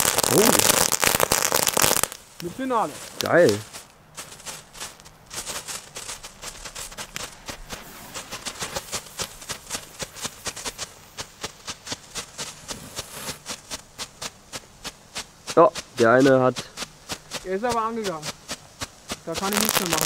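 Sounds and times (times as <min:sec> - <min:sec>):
strobe fireworks popping: 0:00.0 - 0:20.0.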